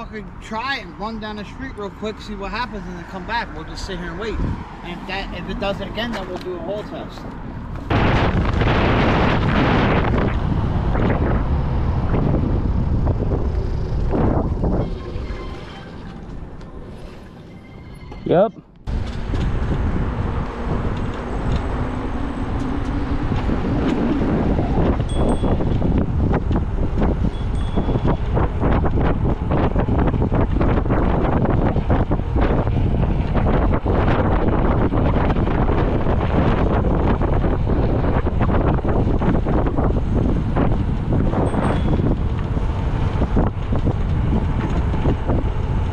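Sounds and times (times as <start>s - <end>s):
wind noise on microphone: 0.0s - 17.8s, 18.9s - 45.9s.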